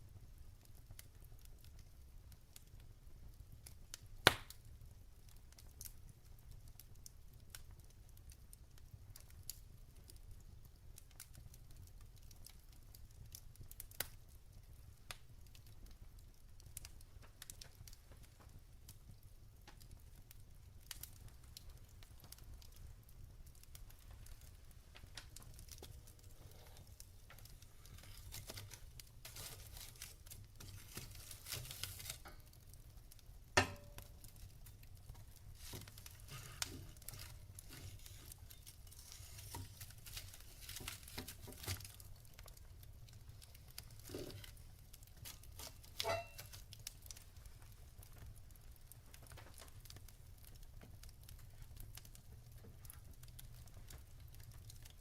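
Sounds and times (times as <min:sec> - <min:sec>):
logs crackling in a fire: 0:00.0 - 0:55.0.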